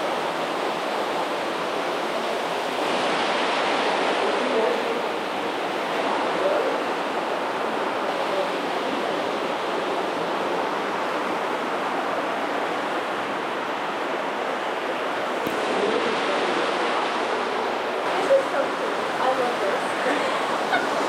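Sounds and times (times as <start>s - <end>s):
water flowing in a cave: 0.0s - 21.0s.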